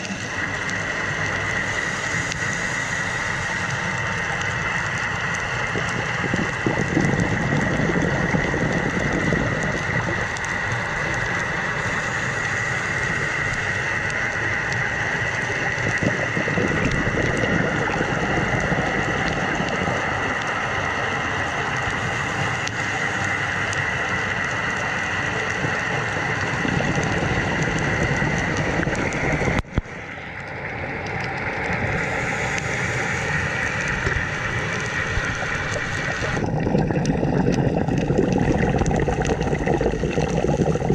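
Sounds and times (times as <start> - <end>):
dull underwater rush: 0.0 - 40.9.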